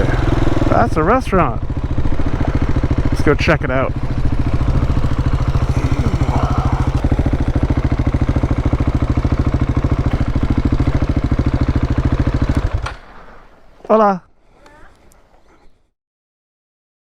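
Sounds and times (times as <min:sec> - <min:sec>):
motorcycle engine idling low revs: 0:00.0 - 0:13.8.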